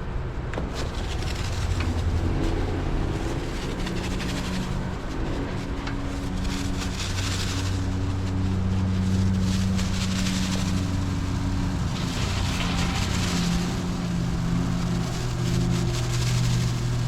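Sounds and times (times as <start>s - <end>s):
awning electric motor humming: 0.6s - 17.0s.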